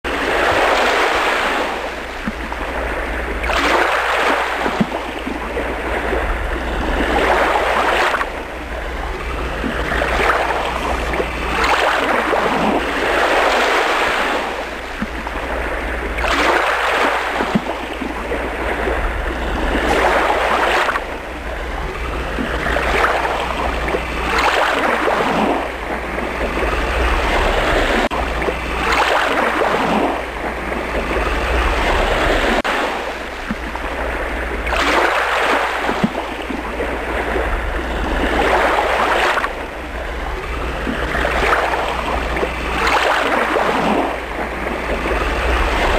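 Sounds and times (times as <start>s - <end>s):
waves breaking: 0.0s - 45.9s.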